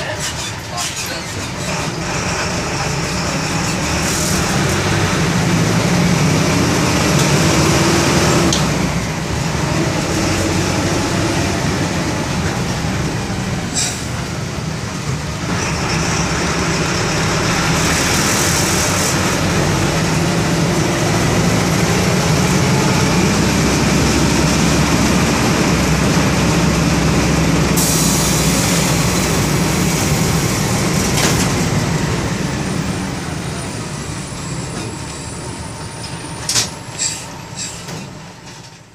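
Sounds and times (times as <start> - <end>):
diesel bus engine droning: 0.0 - 38.9.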